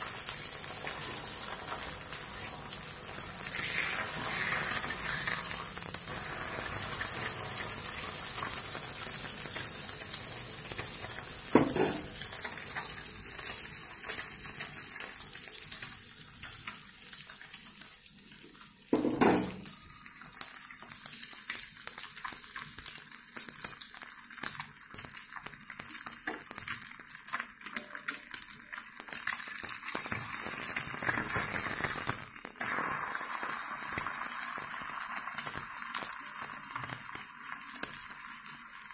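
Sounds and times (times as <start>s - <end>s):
egg sizzling in a pan: 0.0s - 38.9s.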